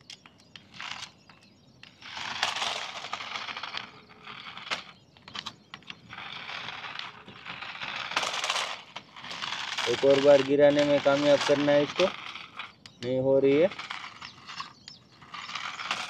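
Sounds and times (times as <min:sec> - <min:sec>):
toys rasping over stony ground: 0:00.0 - 0:16.0.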